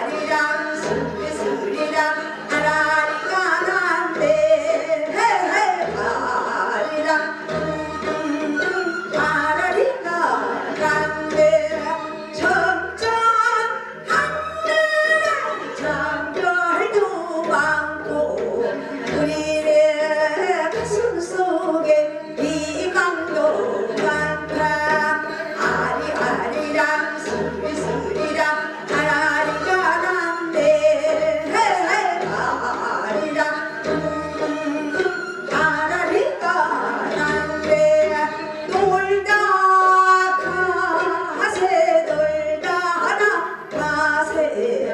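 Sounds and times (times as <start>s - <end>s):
woman singing folk song: 0.0s - 7.5s, 8.4s - 44.9s.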